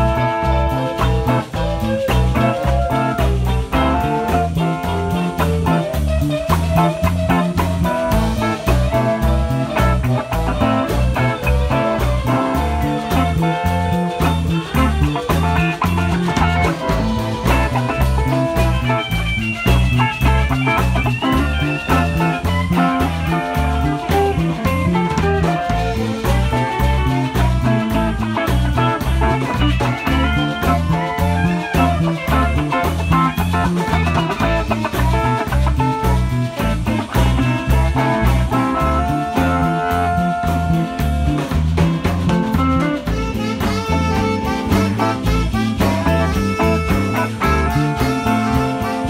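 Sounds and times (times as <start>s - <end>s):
drum kit: 0.0s - 49.0s
lead guitar melody: 0.0s - 49.0s
pulsing bass line: 0.0s - 49.0s.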